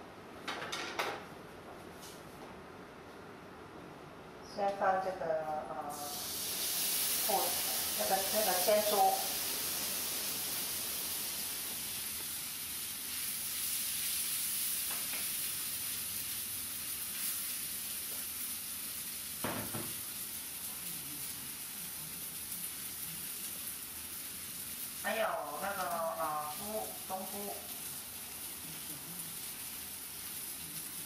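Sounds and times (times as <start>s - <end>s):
food sizzling in a wok: 5.9s - 31.0s.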